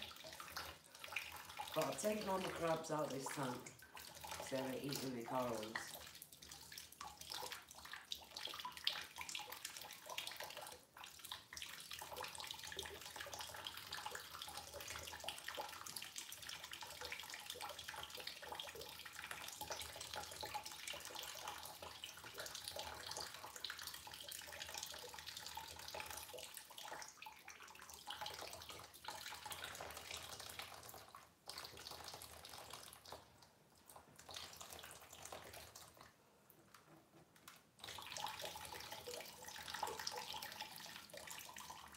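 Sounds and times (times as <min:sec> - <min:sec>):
water running through siphon hose: 0:00.0 - 0:36.2, 0:37.7 - 0:41.9.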